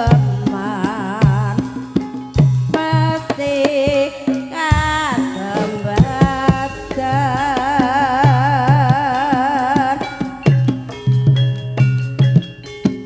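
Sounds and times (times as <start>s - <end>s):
hand drum strokes: 0.0s - 13.0s
held melodic line with vibrato: 0.0s - 13.0s
ringing sustained tones: 0.0s - 13.0s.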